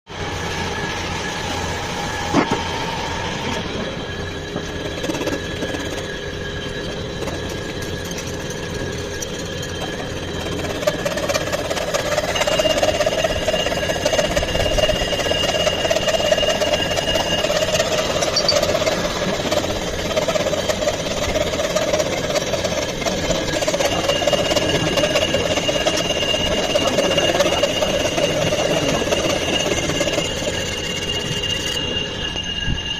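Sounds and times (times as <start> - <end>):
higher whine: 0.1 - 32.9
milling machine gear whine: 0.1 - 32.9.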